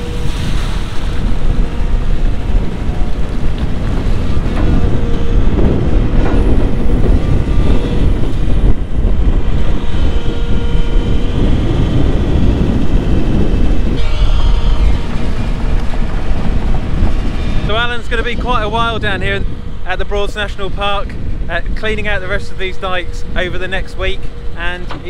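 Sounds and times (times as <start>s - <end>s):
excavator diesel engine rumbling: 0.0s - 25.0s
hydraulics working: 0.0s - 25.0s
wind buffeting microphone: 0.0s - 25.0s.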